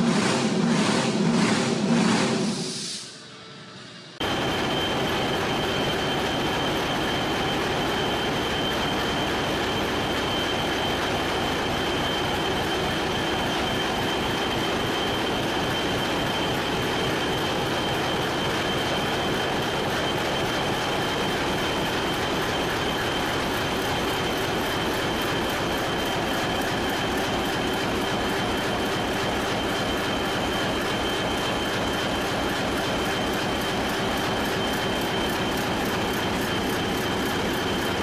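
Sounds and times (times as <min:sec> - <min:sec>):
high whine: 0:00.0 - 0:38.0.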